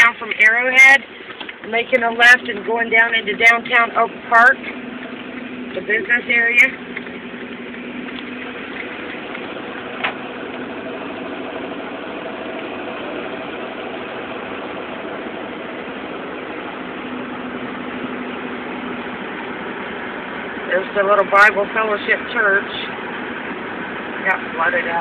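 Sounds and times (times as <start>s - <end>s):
car engine humming: 0.0s - 25.0s
road noise: 0.0s - 25.0s.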